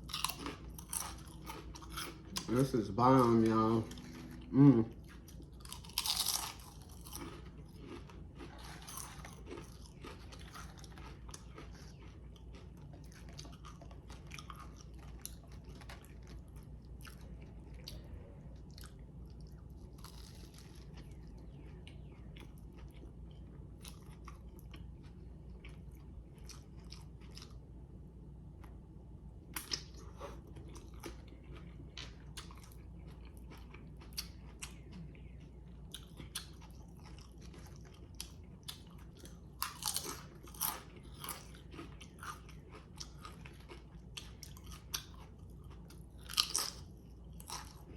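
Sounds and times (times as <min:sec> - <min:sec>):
person chewing crunchy food: 0:00.0 - 0:27.8, 0:29.5 - 0:47.9.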